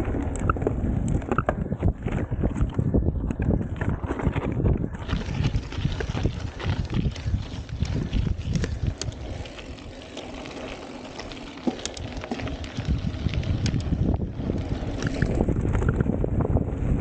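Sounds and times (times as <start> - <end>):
bike clicks and rattles: 0.0 - 17.0
bike tyres rolling on dirt: 0.0 - 17.0
wind rumbling on microphone: 0.0 - 17.0.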